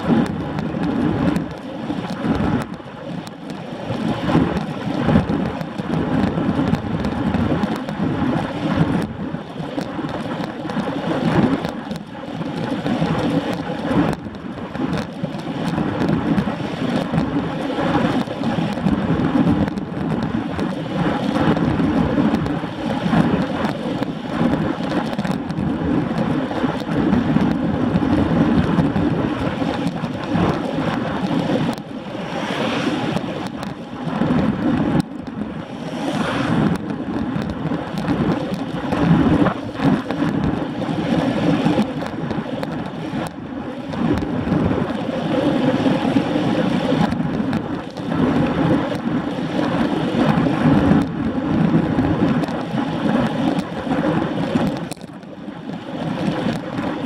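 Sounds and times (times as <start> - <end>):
bike tyres rolling on asphalt: 0.0 - 57.0
wind rushing over microphone: 0.0 - 57.0.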